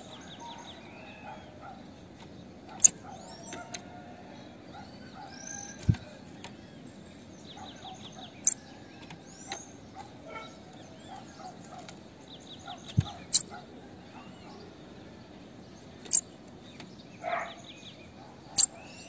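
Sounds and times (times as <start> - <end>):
bird chirps and trills: 0.0 - 19.0.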